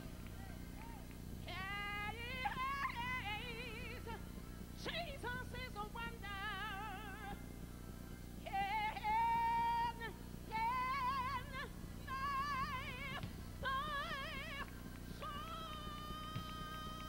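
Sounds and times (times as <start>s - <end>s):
woman singing gospel into microphone: 1.4s - 7.5s, 8.4s - 17.0s.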